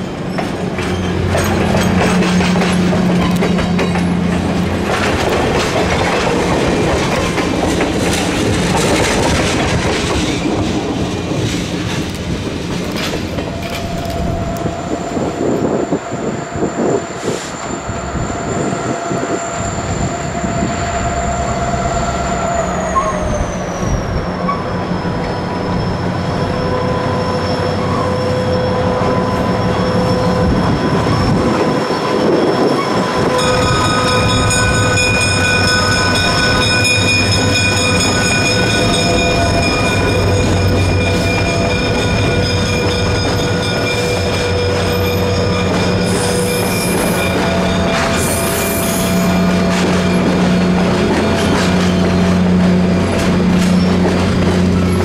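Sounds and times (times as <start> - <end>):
locomotive high whine: 0.0 - 55.0
train wheels clicking on rail joints: 0.0 - 55.0.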